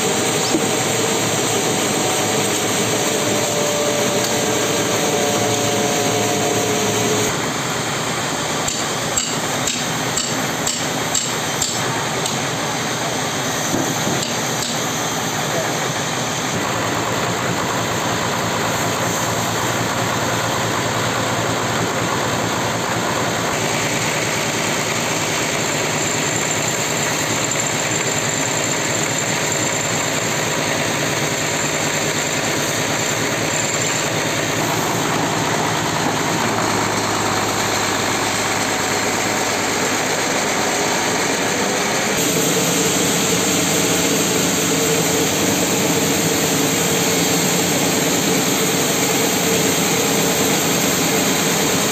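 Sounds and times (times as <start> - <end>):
band sawmill running: 0.0 - 51.9.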